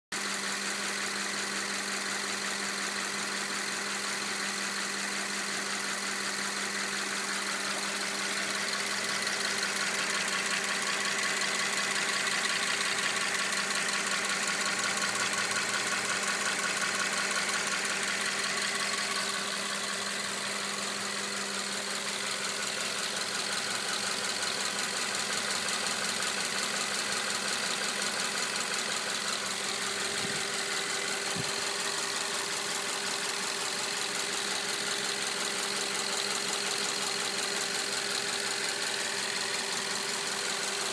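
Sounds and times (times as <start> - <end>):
car engine idling: 0.2 - 40.9
engine knock: 0.2 - 40.9
fast engine ticking: 0.2 - 40.9.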